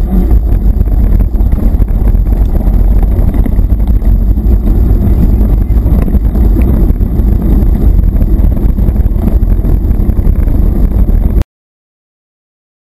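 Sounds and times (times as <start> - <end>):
wind buffeting microphone: 0.0 - 11.4
bike rattles: 0.3 - 11.4.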